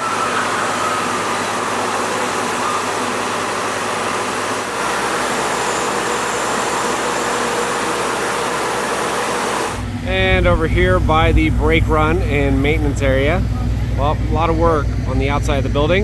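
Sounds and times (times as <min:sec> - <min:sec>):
faint mechanical hum: 0:00.0 - 0:16.0.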